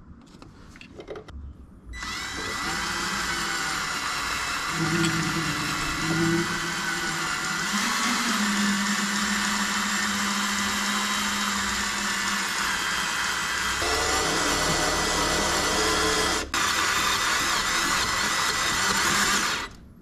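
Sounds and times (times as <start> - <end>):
power drill boring into metal: 2.0 - 19.8.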